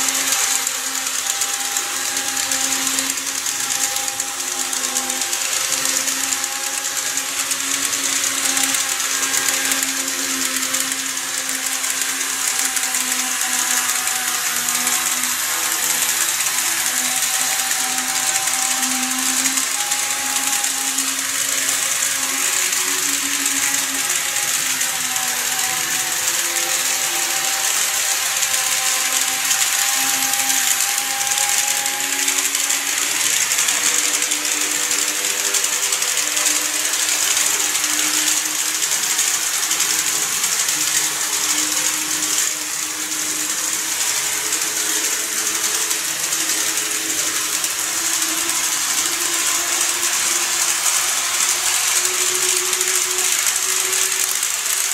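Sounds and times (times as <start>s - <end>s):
wheels rattling on rail: 0.0s - 54.9s.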